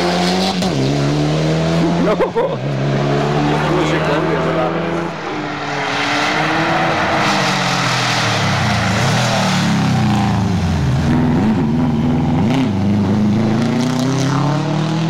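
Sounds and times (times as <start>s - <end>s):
rally car engine passing at high revs: 0.0s - 15.0s.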